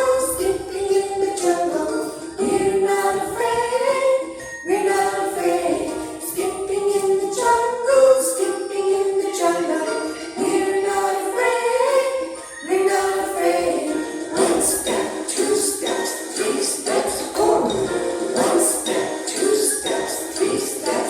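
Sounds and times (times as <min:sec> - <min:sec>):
children's song singing: 0:00.0 - 0:21.0.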